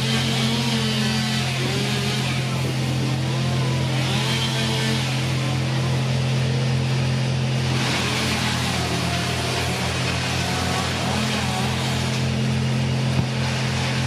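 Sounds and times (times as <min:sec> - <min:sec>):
chainsaw engine droning: 0:00.0 - 0:14.0.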